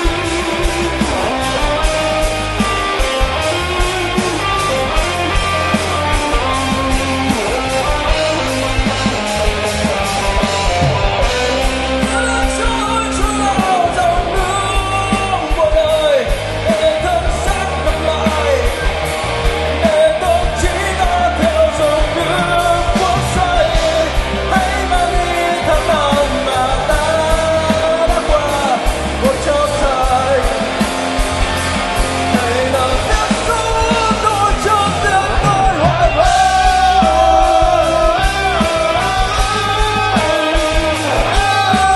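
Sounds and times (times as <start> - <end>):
lead vocalist singing: 0.0 - 41.9
rock band playing live: 0.0 - 41.9.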